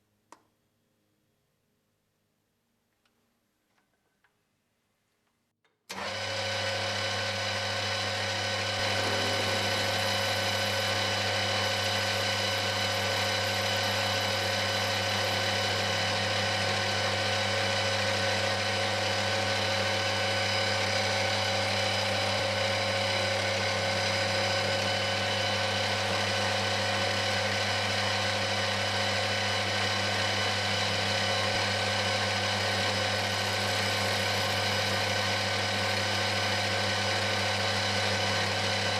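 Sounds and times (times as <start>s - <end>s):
machine motor humming and whining: 5.9s - 38.9s.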